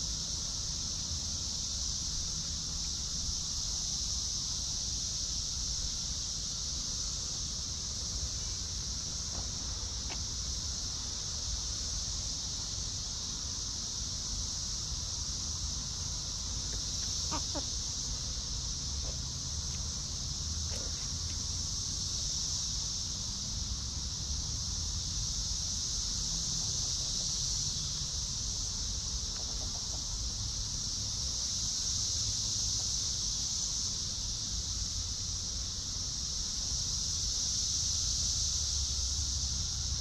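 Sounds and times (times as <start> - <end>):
insect chorus buzzing: 0.0 - 40.0.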